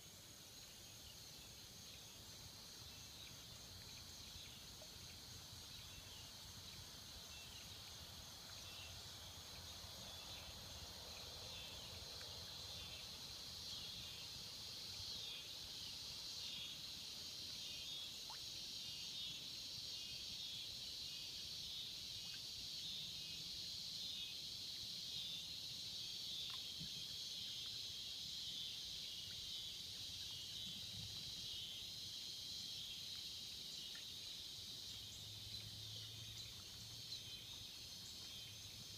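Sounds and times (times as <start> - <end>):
cicadas buzzing: 2.4 - 38.9.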